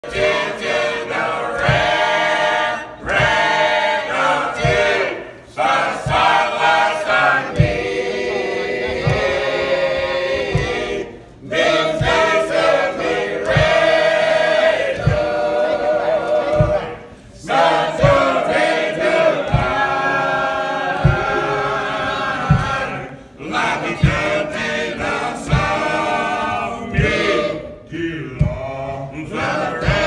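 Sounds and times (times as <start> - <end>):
choir singing gospel: 0.0 - 30.0
low thuds keeping time: 0.0 - 30.0.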